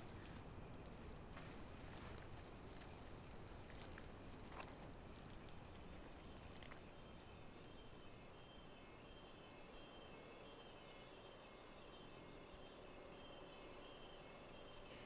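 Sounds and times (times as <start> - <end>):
insects calling: 0.0 - 15.0.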